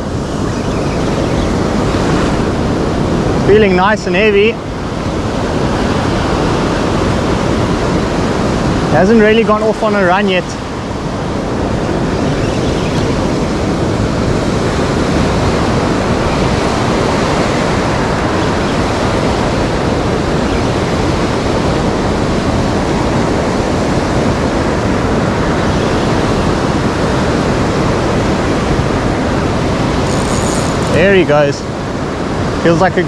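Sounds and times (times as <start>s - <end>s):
surf washing up beach: 0.0s - 33.0s.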